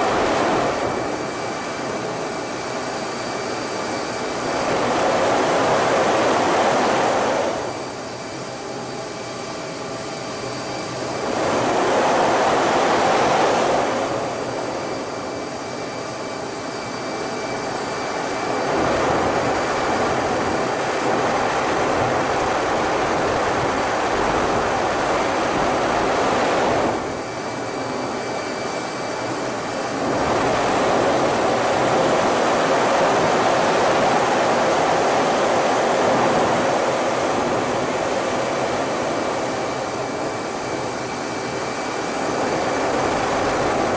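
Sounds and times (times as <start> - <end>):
jet airflow and engine roar: 0.0 - 43.9.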